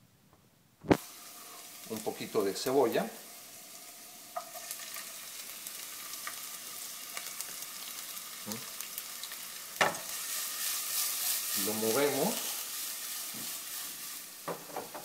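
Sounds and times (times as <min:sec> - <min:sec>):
onion sizzling in hot oil: 0:00.9 - 0:15.0.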